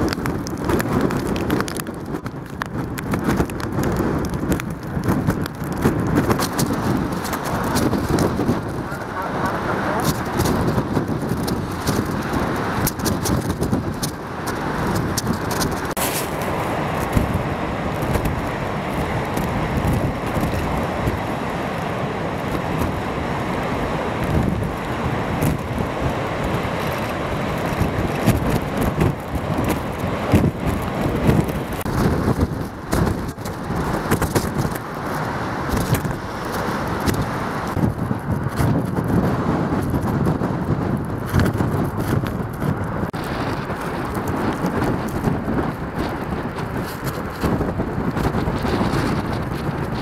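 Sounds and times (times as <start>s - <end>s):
heavy breaking surf: 0.0s - 50.0s
storm wind: 0.0s - 50.0s.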